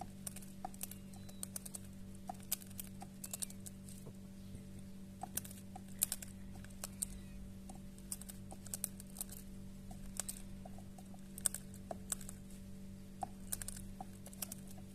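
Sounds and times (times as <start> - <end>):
bird beak crunching food: 0.0 - 4.1, 5.2 - 12.6, 13.2 - 14.9
low hum: 0.0 - 14.9.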